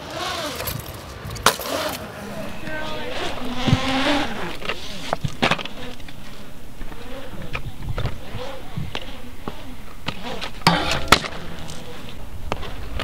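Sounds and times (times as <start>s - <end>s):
scooter wheels whirring on concrete: 0.0s - 13.0s.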